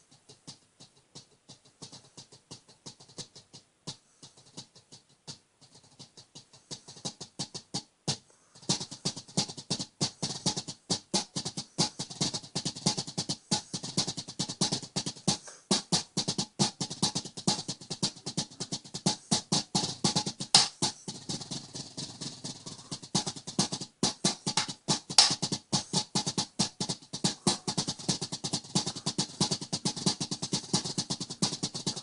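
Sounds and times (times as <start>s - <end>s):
drumsticks on mesh snare drum: 0.0s - 32.0s.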